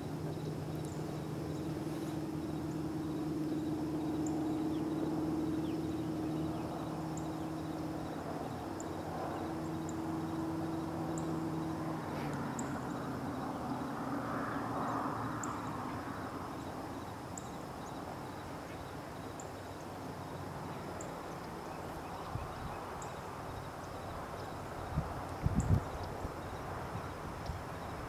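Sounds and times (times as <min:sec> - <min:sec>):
thin steady high hum: 0:00.0 - 0:28.0.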